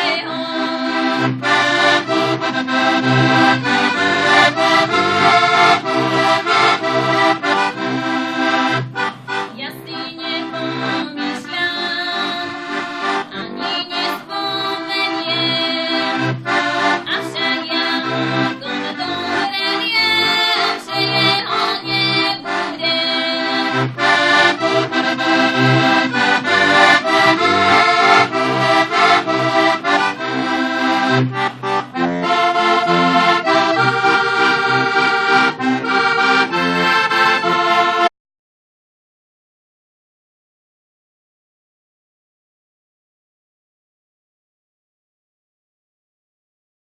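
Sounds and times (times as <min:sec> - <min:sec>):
button accordion playing folk tune: 0:00.0 - 0:38.1.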